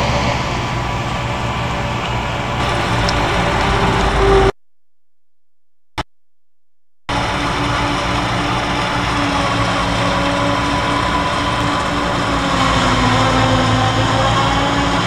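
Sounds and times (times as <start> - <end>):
heavy farm machinery engine: 0.0 - 4.5, 7.1 - 15.0.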